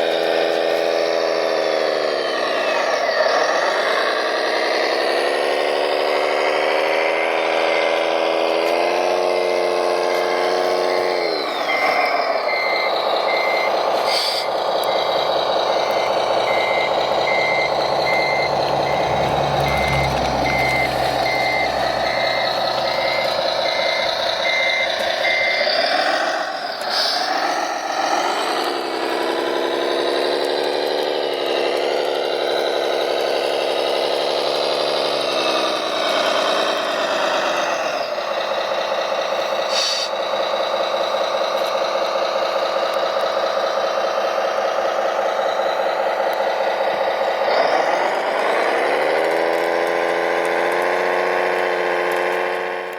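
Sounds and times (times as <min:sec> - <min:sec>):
reversing beeper: 0:00.0 - 0:28.4, 0:31.6 - 0:42.8, 0:43.4 - 0:51.5
diesel truck engine: 0:00.0 - 0:52.9.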